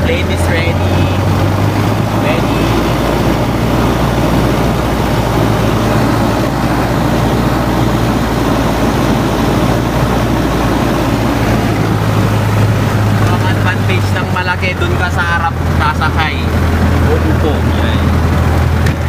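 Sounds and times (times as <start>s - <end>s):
light aircraft engine droning: 0.0s - 19.0s.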